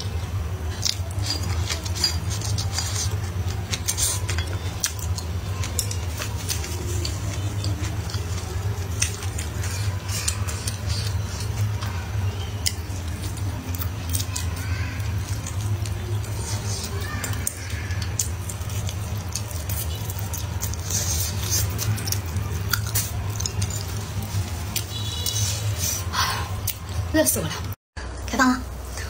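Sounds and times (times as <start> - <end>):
chewing food: 0.0 - 27.1.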